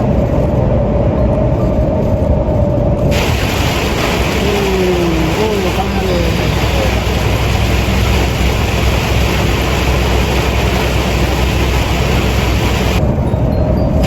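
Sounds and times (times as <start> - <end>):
road and wind noise: 0.0 - 14.0
truck engine drone: 0.0 - 14.0.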